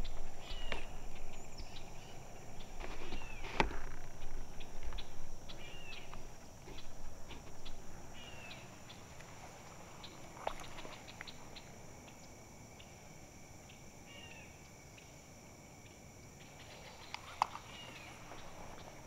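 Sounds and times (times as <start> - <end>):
birds chirping: 0.0 - 13.0, 16.4 - 19.0
faint steady hiss: 0.0 - 19.0.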